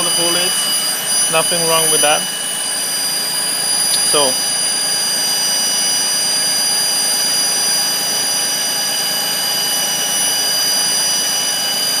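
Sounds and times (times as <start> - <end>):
high whining tones: 0.0 - 12.0.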